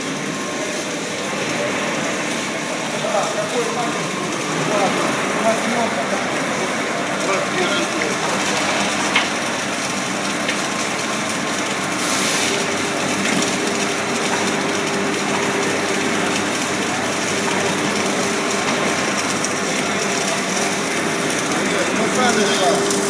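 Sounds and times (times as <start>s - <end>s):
welding machine running: 0.0s - 23.0s.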